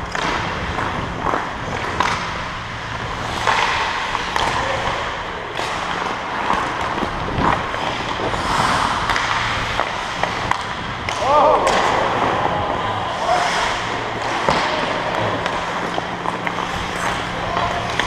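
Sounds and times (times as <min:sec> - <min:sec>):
low steady hum: 0:00.0 - 0:18.0
skate blades scraping ice: 0:00.0 - 0:18.0
sticks and puck clacking: 0:00.0 - 0:18.0.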